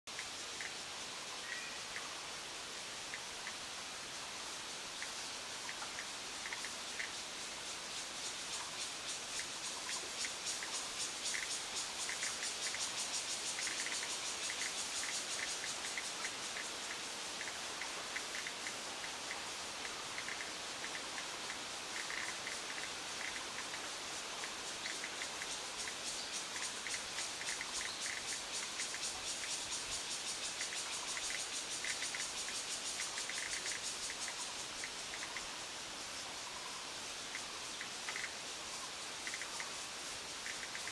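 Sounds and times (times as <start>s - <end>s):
cicada buzzing: 5.0s - 40.9s.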